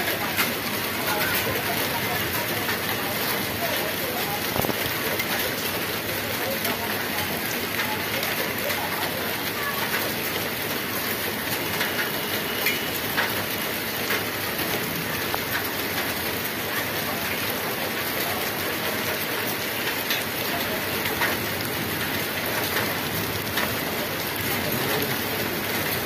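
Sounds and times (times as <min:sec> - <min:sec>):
heavy rain on asphalt: 0:00.0 - 0:26.0
raindrops splashing: 0:00.0 - 0:26.0.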